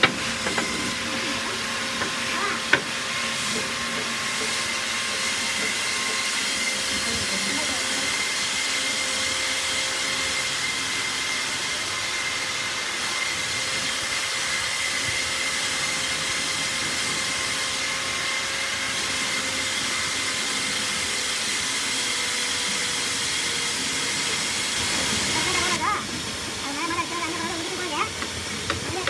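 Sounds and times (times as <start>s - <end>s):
hiss: 0.0s - 29.0s
machine whine: 0.0s - 29.0s.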